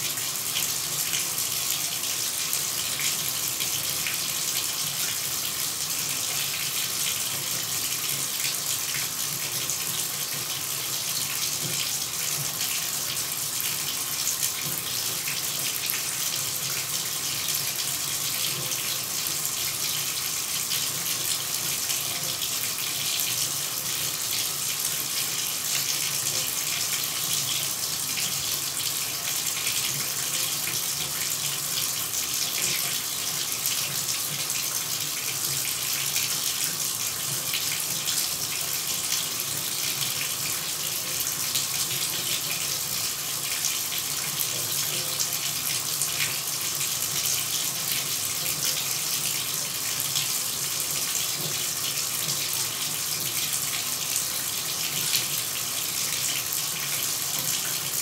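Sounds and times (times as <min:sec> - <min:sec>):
shower running: 0:00.0 - 0:58.0.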